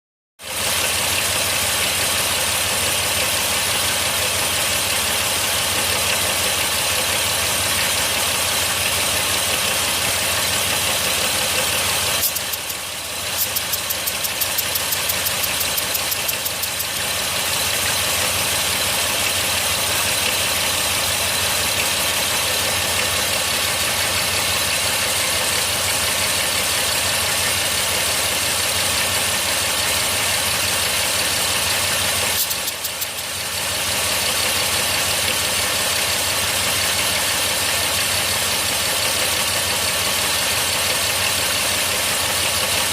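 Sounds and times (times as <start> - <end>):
car engine idling with misfire: 0.4 - 42.9.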